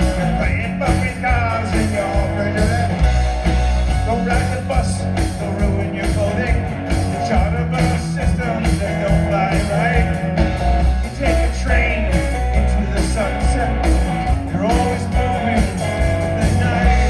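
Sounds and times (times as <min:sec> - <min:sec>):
bass guitar: 0:00.0 - 0:17.0
drums: 0:00.0 - 0:17.0
electric guitar: 0:00.0 - 0:17.0
lead vocals: 0:00.0 - 0:17.0.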